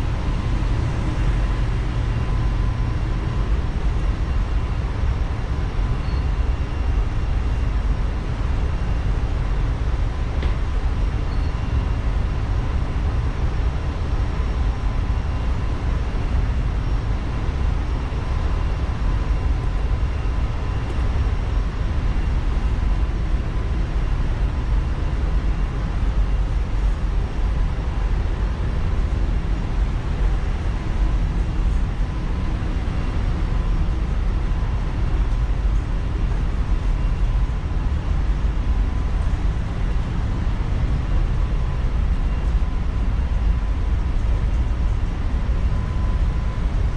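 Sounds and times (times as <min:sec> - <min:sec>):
engine room machinery rumble: 0:00.0 - 0:46.9
faint steady whine: 0:00.0 - 0:46.9.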